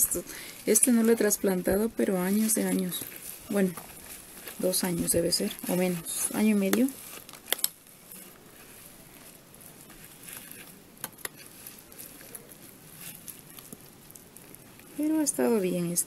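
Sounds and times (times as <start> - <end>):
soil crumbling and falling: 0.0 - 16.0.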